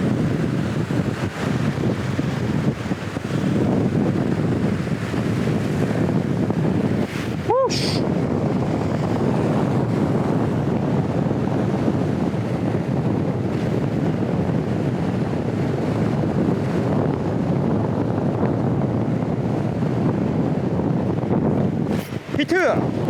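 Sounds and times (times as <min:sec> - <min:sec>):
sea swell washing on rocks: 0:00.0 - 0:23.0
strong wind buffeting microphone: 0:00.0 - 0:23.0.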